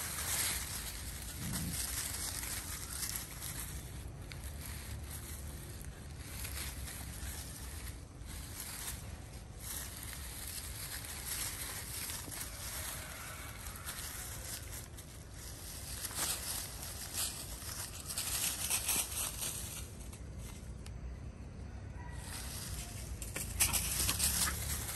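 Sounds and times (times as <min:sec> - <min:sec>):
dry leaves rustling and crackling: 0:00.0 - 0:24.9.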